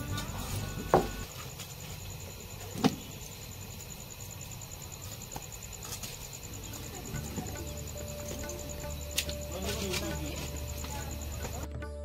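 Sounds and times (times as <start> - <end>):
pulsing insect chirp: 0.0 - 12.0.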